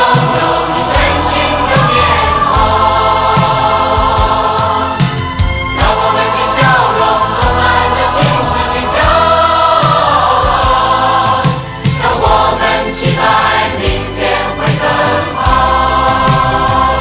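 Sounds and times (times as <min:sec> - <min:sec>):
song with long held sung notes: 0:00.0 - 0:17.0
steady drum beat: 0:00.0 - 0:17.0.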